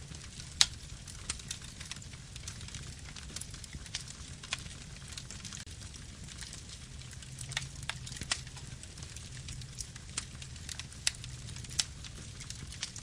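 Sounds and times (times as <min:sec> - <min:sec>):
burning wood crackling and popping: 0:00.0 - 0:13.0
low rumble of flames: 0:00.0 - 0:13.0.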